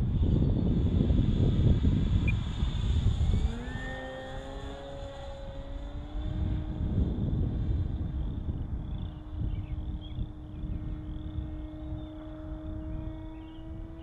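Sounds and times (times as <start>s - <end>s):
model plane motor humming: 0.0s - 14.0s
wind rumble on microphone: 0.0s - 14.0s.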